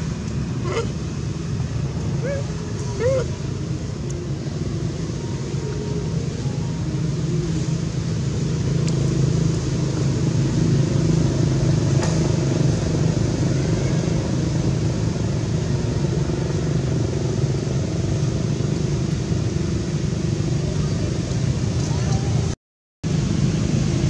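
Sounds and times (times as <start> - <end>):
engine rumbling: 0.0 - 24.0.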